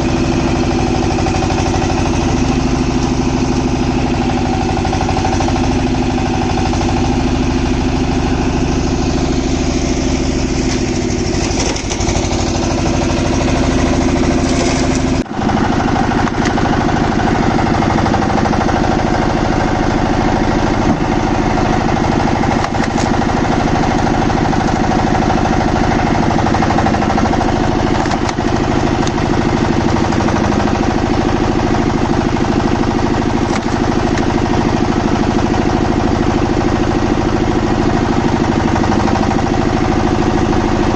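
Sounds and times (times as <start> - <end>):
wood-cutting machine engine running: 0.0 - 40.9.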